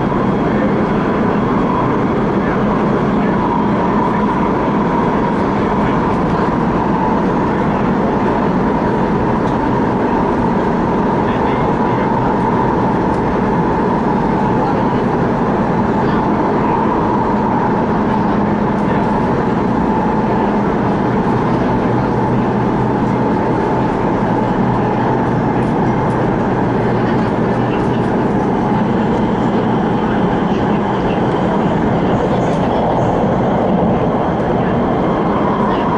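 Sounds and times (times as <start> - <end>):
electric train hum: 0.0 - 35.9
train wheels rumbling on track: 0.0 - 35.9.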